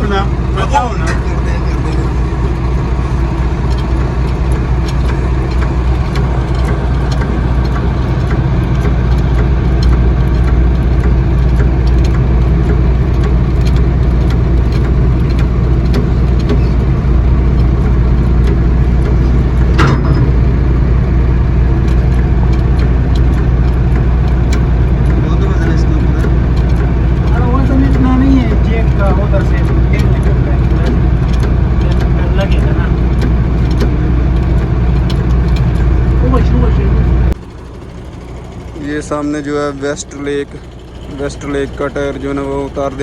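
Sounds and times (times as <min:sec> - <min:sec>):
metal clatter: 0:00.0 - 0:43.0
truck engine idling: 0:00.0 - 0:43.0.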